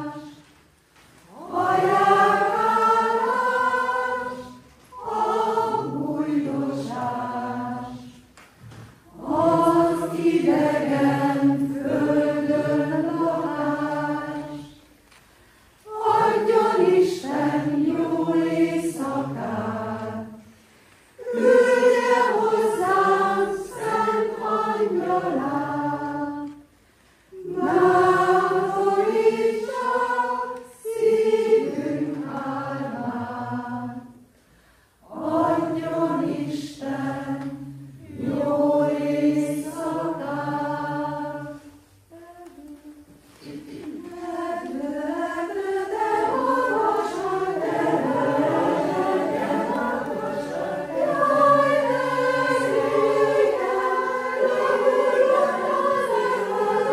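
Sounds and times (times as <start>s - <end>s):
mixed choir singing a cappella: 0.0s - 0.6s, 1.2s - 15.0s, 15.8s - 56.9s.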